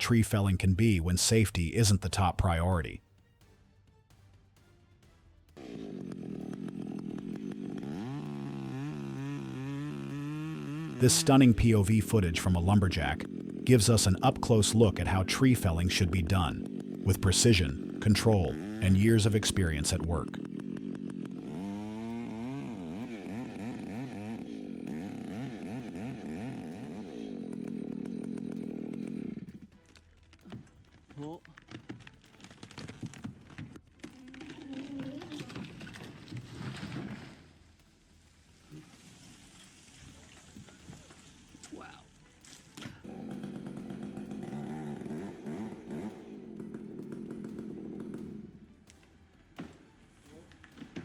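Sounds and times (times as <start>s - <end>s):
chainsaw engine revving: 0.0s - 3.0s, 5.6s - 51.0s.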